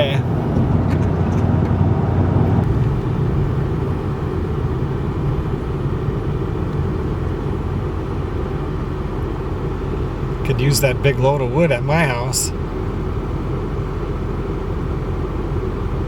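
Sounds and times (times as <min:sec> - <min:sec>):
road and engine rumble in truck cab: 0:00.0 - 0:16.0.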